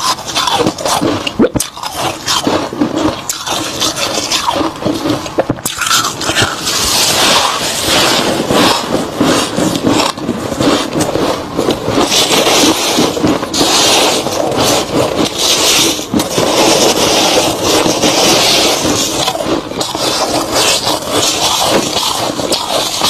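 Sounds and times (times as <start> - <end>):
crunching frost being chewed: 0.0 - 23.0.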